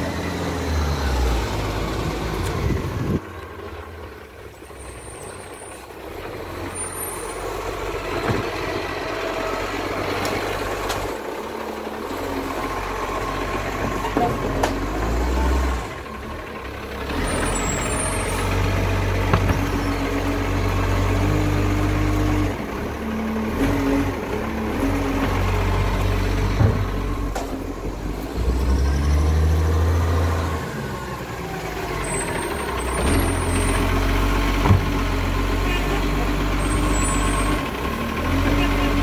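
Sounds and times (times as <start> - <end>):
diesel truck engine revving: 0.0 - 39.0.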